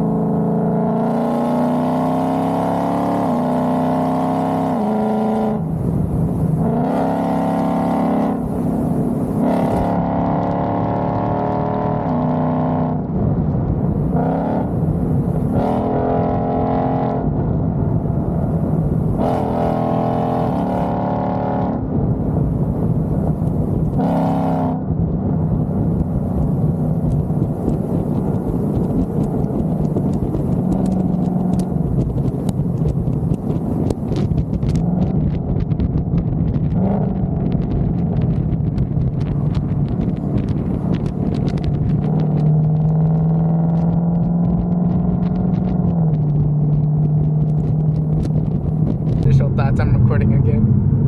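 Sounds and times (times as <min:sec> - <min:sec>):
car engine pulling hard: 0:00.0 - 0:51.0.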